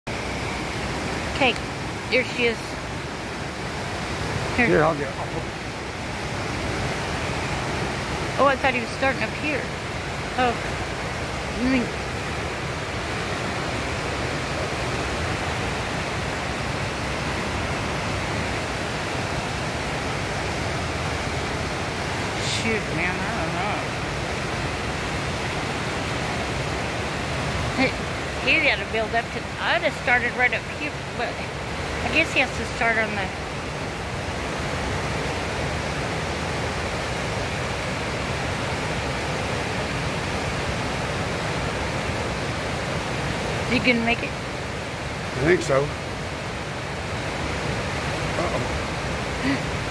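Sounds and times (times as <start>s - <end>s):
river rushing through rapids: 0.1s - 49.9s.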